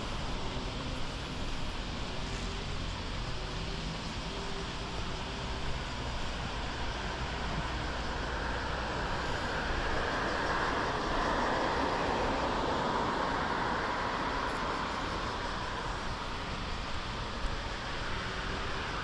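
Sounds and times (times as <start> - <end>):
cars passing on road: 0.0 - 19.0.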